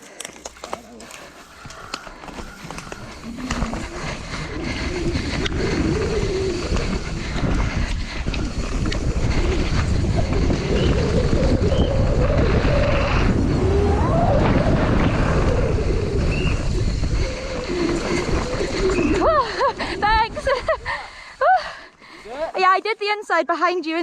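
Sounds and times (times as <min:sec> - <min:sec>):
mountain bike rumbling on track: 0:00.2 - 0:21.2
wind buffeting microphone: 0:01.4 - 0:21.8.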